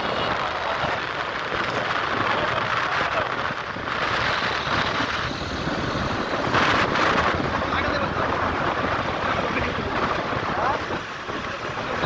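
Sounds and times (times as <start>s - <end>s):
motorcycle engine and road noise: 0.0s - 12.0s
wind noise on microphone: 0.0s - 12.0s.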